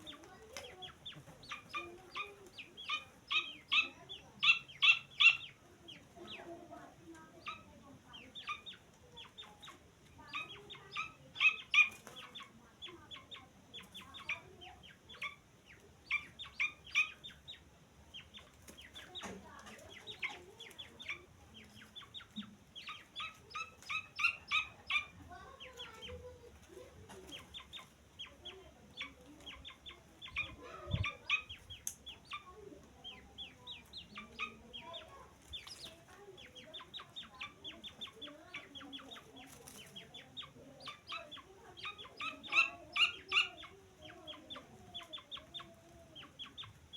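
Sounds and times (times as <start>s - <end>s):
chicks peeping: 0.0s - 46.9s.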